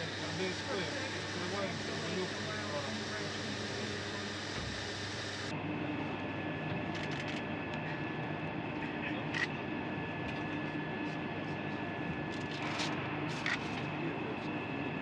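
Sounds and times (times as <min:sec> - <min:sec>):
radio channel hum and hiss: 0:00.0 - 0:06.2, 0:08.8 - 0:15.0.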